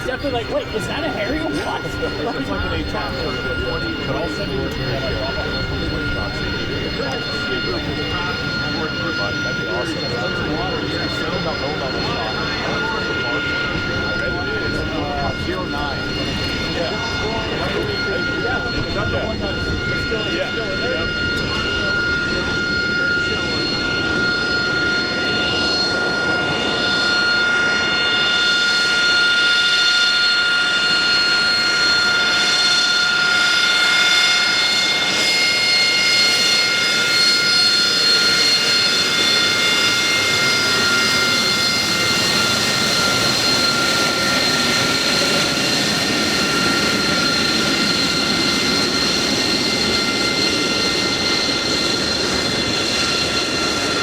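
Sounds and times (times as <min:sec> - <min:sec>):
jet engine whine while taxiing: 0:00.0 - 0:54.0.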